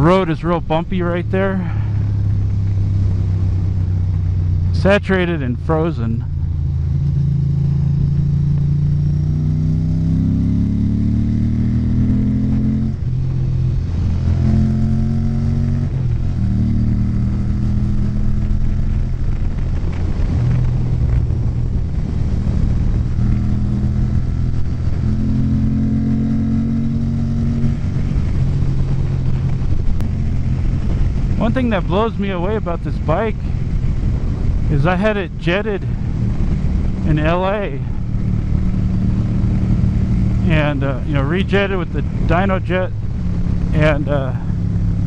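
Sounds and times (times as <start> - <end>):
motorcycle engine accelerating: 0.0 - 45.0
wind and road noise: 0.0 - 45.0.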